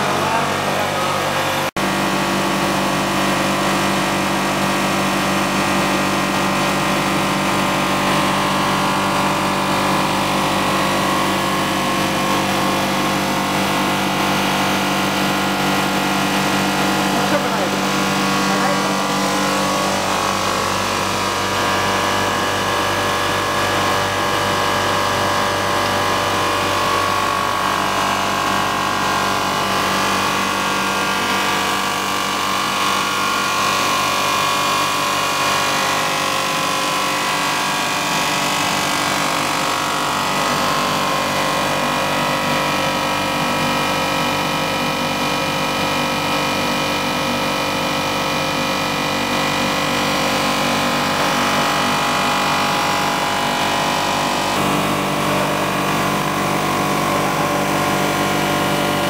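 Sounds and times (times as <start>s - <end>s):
machine hum with constant tones: 0.0s - 59.0s.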